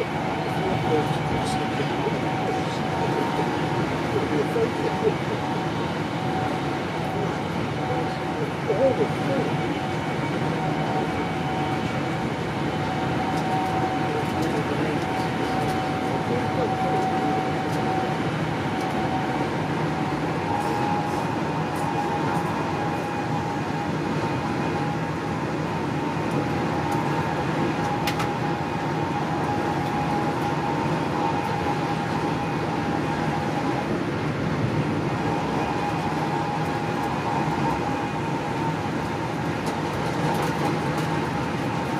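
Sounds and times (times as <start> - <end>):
constant whine: 0.0 - 41.9.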